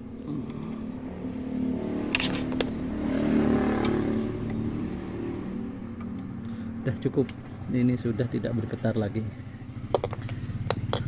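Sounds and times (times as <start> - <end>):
scooter engine revving: 0.0 - 7.6, 9.4 - 11.0.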